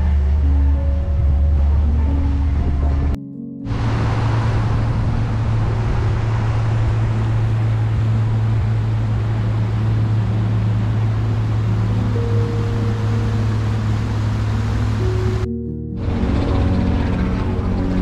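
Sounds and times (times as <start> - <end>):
boat motor humming: 0.0 - 18.0
rushing wind: 0.0 - 18.0
water noise: 0.0 - 18.0.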